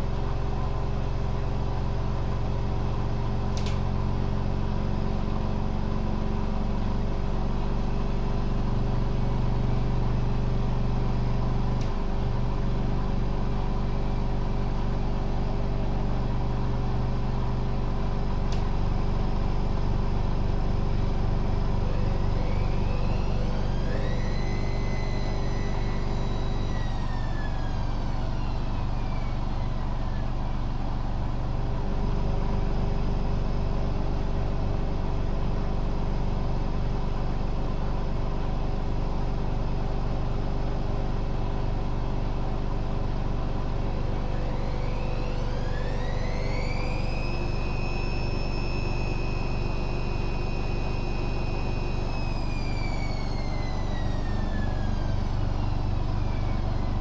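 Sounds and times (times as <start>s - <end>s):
washing machine spinning hum: 0.0s - 57.0s.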